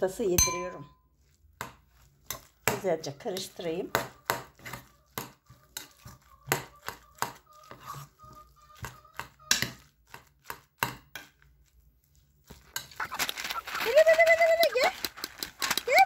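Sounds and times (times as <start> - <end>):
wet squelches of kneading: 0.0 - 16.0.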